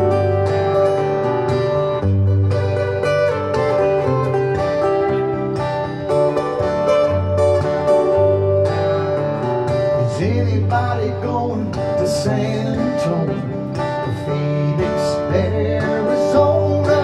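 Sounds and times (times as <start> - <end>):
bass line: 0.0 - 17.0
electric guitar lead: 0.0 - 17.0.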